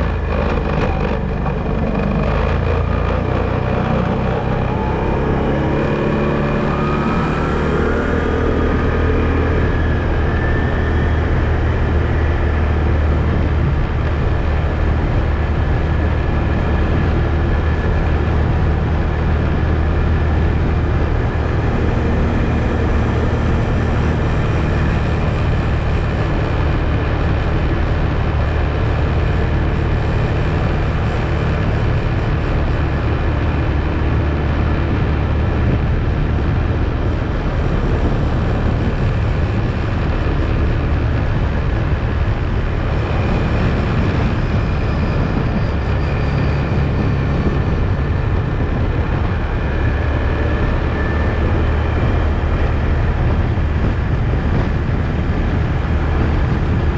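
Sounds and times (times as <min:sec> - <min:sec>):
quad bike engine droning: 0:00.0 - 0:56.9.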